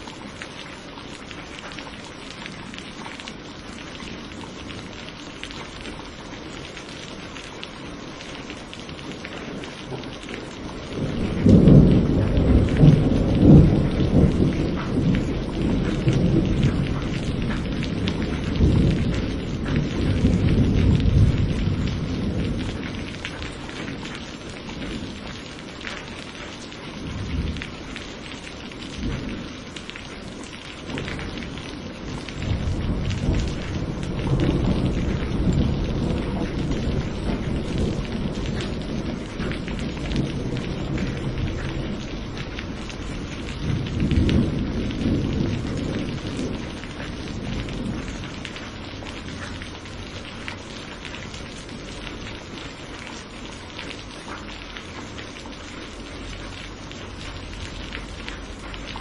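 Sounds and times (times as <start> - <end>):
steady rain: 0.0 - 59.0
thunder rumbling: 4.0 - 52.8.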